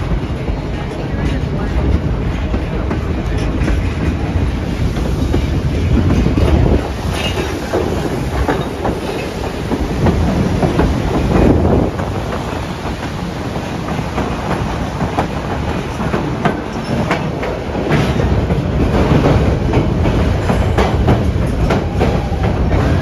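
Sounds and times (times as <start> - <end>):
train cars rumbling: 0.0 - 23.0
wheels clattering over rails: 0.0 - 23.0.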